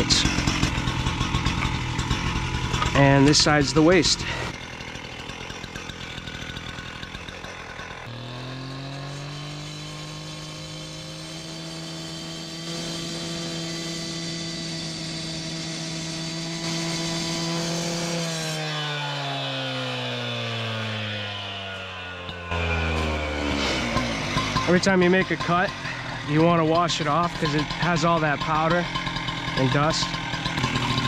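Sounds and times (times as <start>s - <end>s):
cut-off saw motor: 0.0s - 31.0s
saw grinding through stone: 0.0s - 31.0s.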